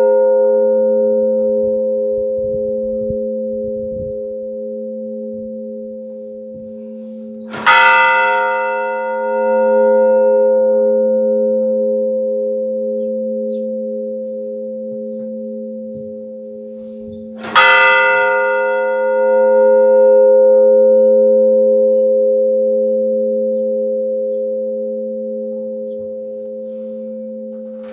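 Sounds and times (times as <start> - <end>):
large church bell tolling: 0.0 - 27.9.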